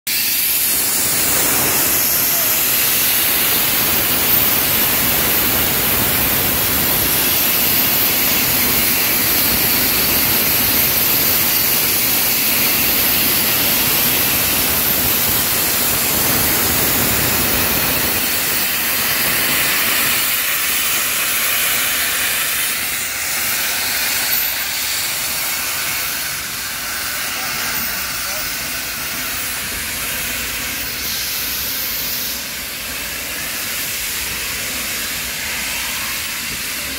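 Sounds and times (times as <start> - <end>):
steam hissing loudly: 0.1 - 36.9.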